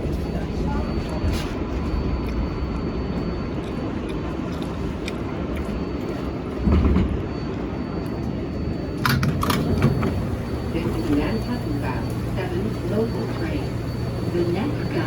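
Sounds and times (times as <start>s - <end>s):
faint high whine: 0.0s - 15.0s
subway car rumble: 0.0s - 15.0s.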